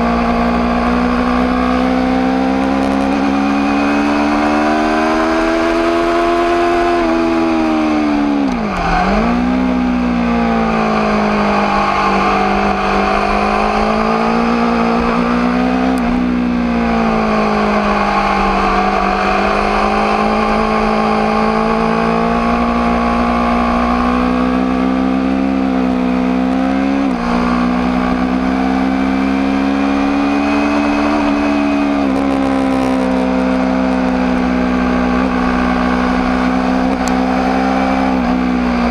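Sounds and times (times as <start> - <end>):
motorcycle engine running high: 0.0 - 38.9.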